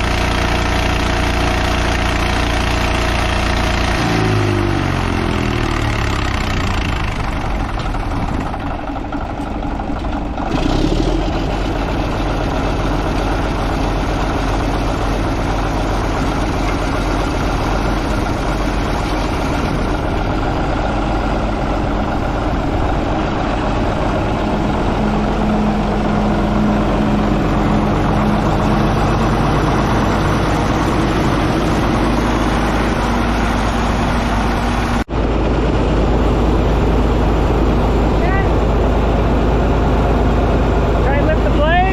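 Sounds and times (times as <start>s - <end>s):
bulldozer engine running: 0.0s - 41.9s.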